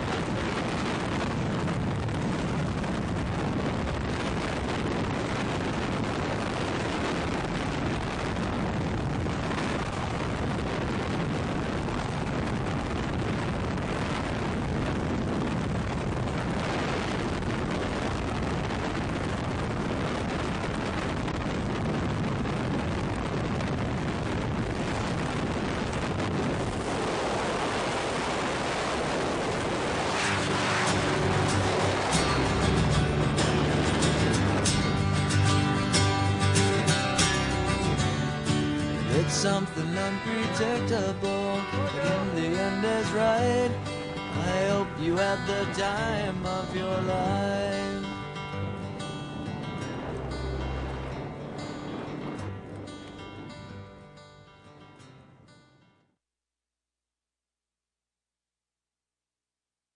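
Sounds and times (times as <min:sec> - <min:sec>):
rushing air buffeting microphone: 0:00.0 - 0:55.0.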